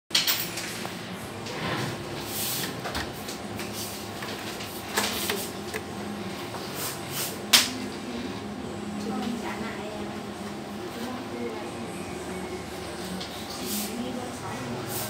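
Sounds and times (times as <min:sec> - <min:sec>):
copier humming: 0:00.6 - 0:15.0.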